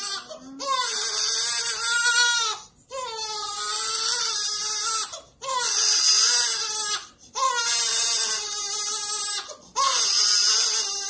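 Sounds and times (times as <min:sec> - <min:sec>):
baby crying: 0:00.0 - 0:11.0.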